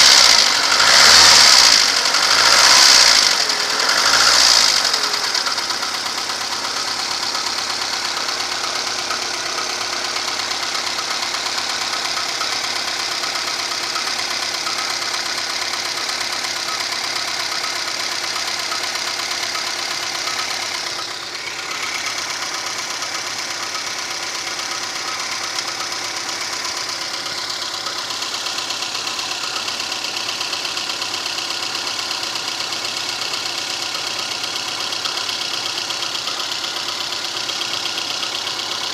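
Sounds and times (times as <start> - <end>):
car engine running with a knock: 0.0 - 38.9.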